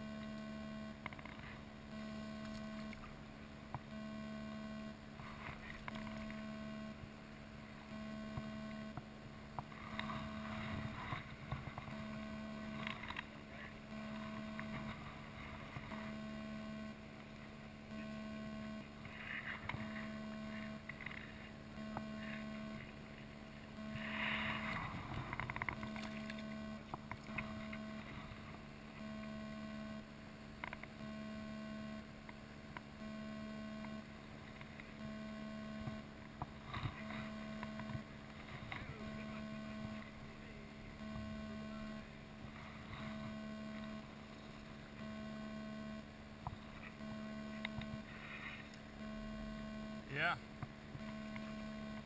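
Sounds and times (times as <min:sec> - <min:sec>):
pulsing electrical hum: 0:00.0 - 0:52.0.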